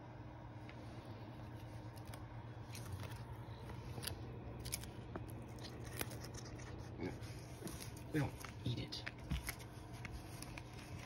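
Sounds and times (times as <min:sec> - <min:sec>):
faint low hum: 0:00.0 - 0:11.0
kitten chewing crunches: 0:01.6 - 0:11.0.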